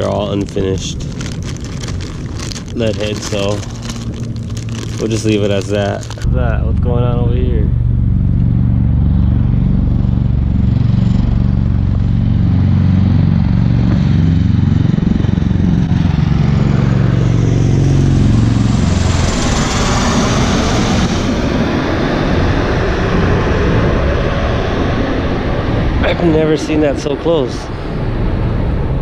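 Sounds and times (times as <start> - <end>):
aircraft rotor drone: 0.0 - 29.0
rushing roar: 2.8 - 29.0.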